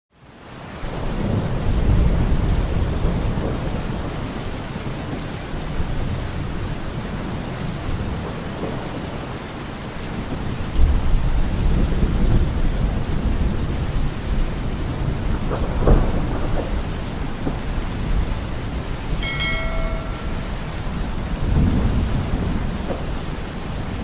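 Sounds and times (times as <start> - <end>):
heavy rain falling: 0.2 - 24.0
low rolling thunder: 0.8 - 9.4, 10.1 - 24.0.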